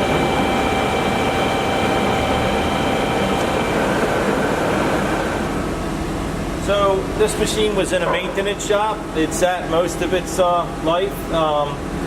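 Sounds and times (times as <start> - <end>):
lathe mechanical hum: 0.0 - 12.0.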